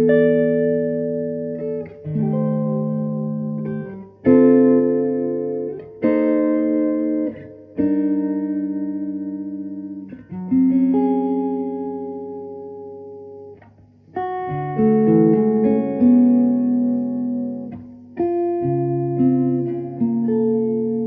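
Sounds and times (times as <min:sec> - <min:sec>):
guitar chords strummed: 0:00.0 - 0:21.0.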